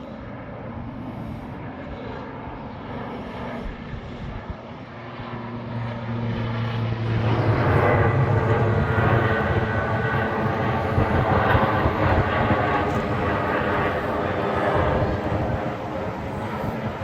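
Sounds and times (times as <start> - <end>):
aircraft engines in flight: 0.0 - 17.0.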